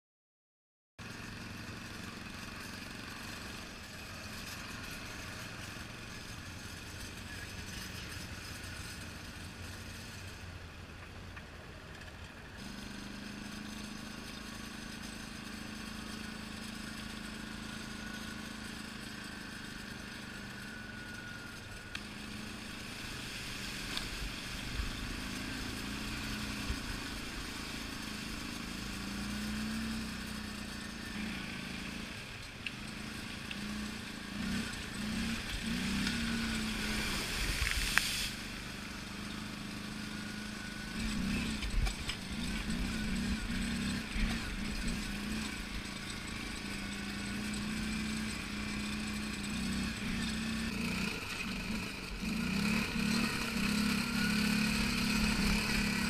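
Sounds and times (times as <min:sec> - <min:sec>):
quad bike engine: 0:01.0 - 0:56.0.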